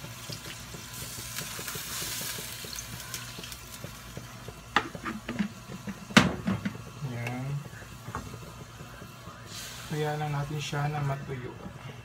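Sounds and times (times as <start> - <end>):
sauce hissing and sizzling: 0.0 - 12.0.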